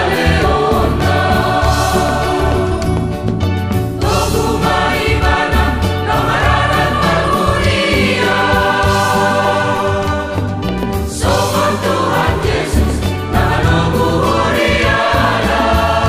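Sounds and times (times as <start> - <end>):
choir singing in parts: 0.0 - 16.0
pulsing bass accompaniment: 0.0 - 16.0.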